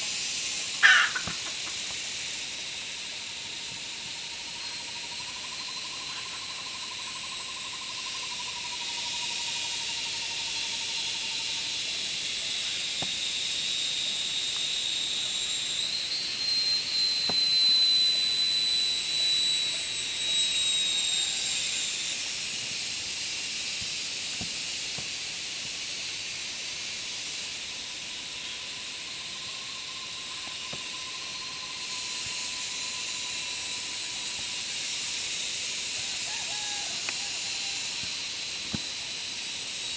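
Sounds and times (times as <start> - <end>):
cicadas shrill drone: 0.0 - 39.9.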